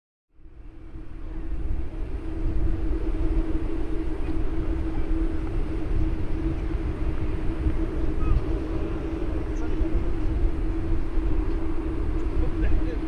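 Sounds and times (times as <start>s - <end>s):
distant jet engines droning: 0.4s - 13.0s.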